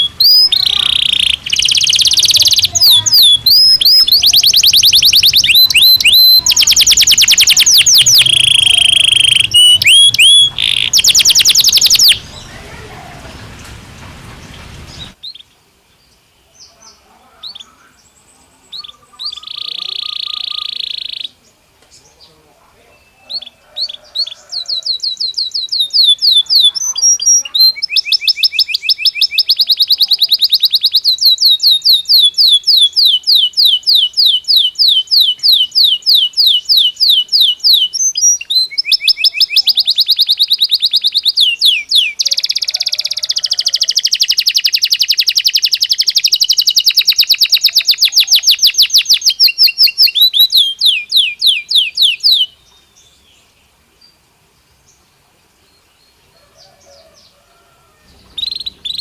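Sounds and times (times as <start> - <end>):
canary singing trills: 0.0 - 13.5, 16.5 - 54.2, 55.7 - 59.0.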